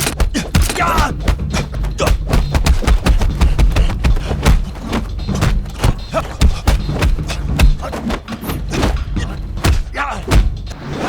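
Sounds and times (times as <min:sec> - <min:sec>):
punch and kick impacts: 0:00.0 - 0:10.8
low film music score: 0:00.0 - 0:11.0.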